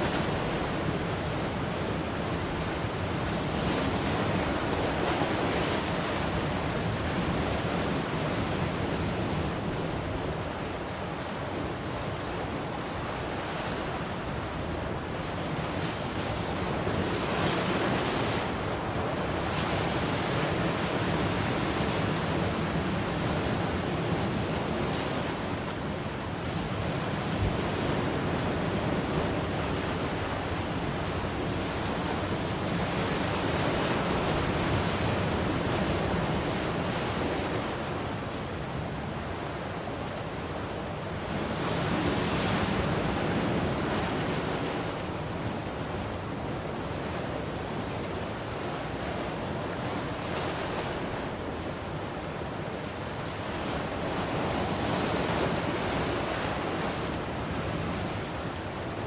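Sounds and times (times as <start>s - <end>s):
waves breaking ashore: 0.0s - 59.0s.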